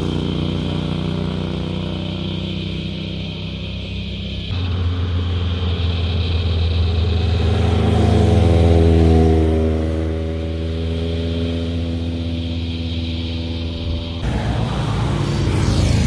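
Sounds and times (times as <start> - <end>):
motorcycle engine accelerating: 0.0 - 16.0
motorcycles riding past: 0.0 - 16.0.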